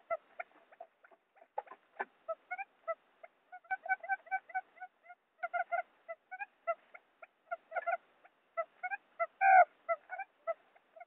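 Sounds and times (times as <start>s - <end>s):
quail calls: 0.0s - 11.0s.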